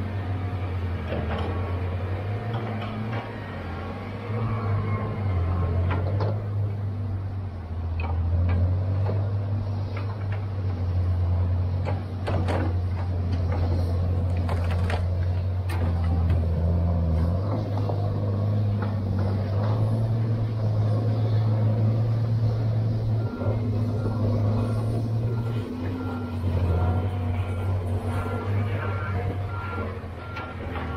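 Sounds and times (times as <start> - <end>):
diesel engine under load: 0.0 - 30.9.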